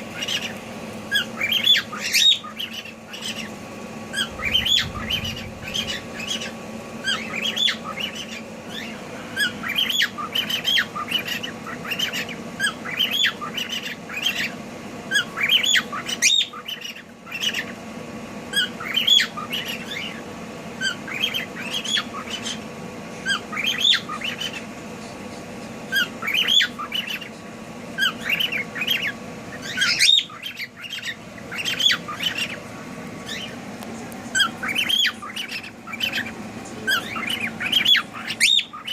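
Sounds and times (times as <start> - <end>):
cockatiels squawking and chirping: 0.0 - 17.9, 18.5 - 38.9
faint hum: 0.0 - 38.9.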